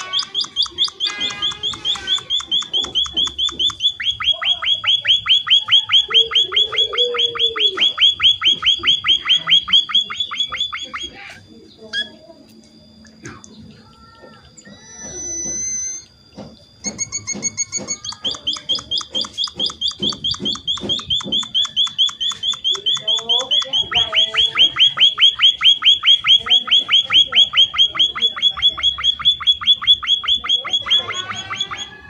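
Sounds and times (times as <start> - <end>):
bird singing sharp high notes: 0.0 - 11.3, 16.9 - 32.0.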